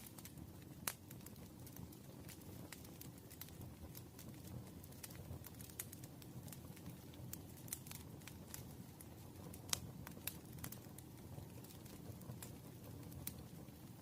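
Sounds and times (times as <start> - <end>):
burning wood popping: 0.0 - 14.0
campfire crackling: 0.0 - 14.0
low rumble of flame: 0.0 - 14.0.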